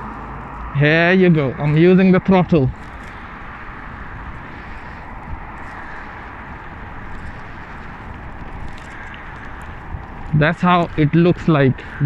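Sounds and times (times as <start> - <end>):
road noise: 0.0 - 12.0
wind rushing: 0.0 - 12.0.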